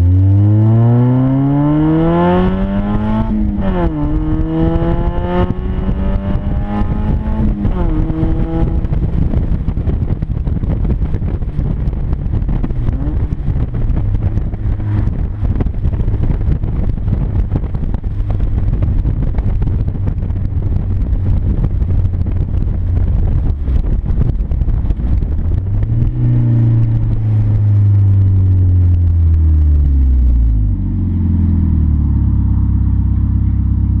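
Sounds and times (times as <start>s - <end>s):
loud car engine exhaust: 0.0s - 34.0s
road noise: 0.0s - 34.0s.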